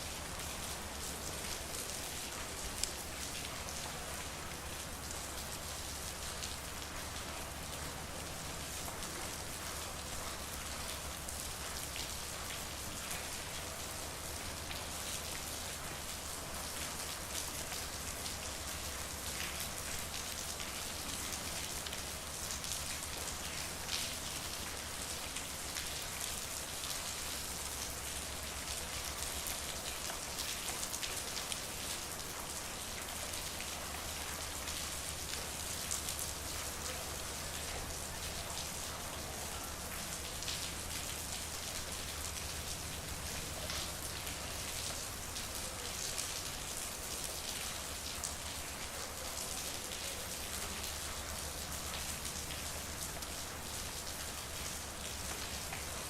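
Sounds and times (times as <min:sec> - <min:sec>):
rain drops ticking on hard surfaces: 0:00.0 - 0:56.0.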